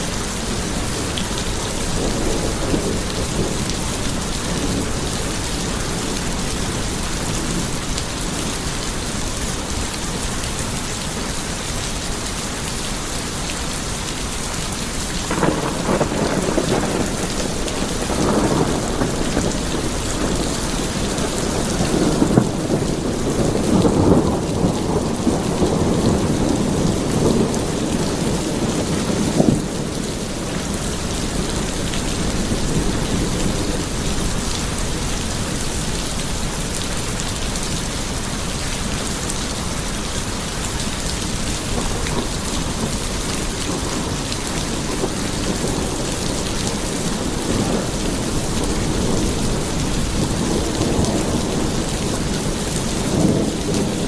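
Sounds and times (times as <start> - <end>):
steady rain falling: 0.0 - 54.0
rolling thunder: 0.2 - 9.0, 15.1 - 38.5, 39.1 - 54.0.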